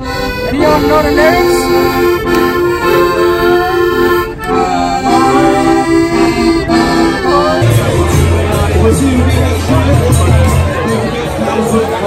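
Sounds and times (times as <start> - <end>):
accordion playing a tune: 0.0 - 12.0.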